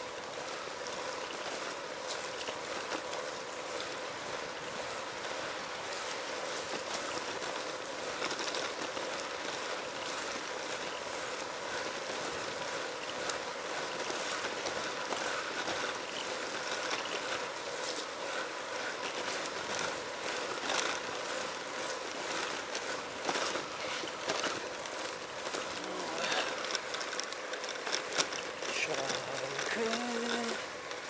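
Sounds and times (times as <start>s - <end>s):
tyres hissing on wet road: 0.0s - 31.0s.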